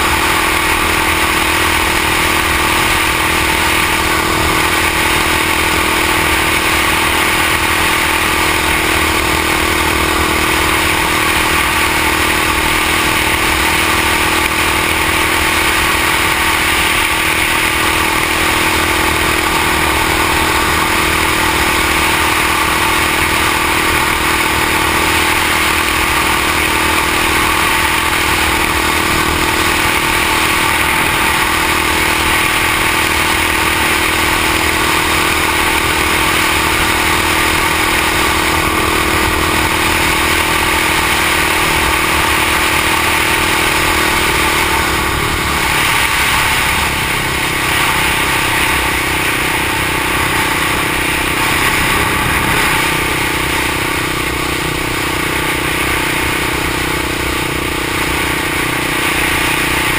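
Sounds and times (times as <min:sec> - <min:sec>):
engine running steadily: 0:00.0 - 0:59.9
wind and road noise: 0:00.0 - 0:59.9.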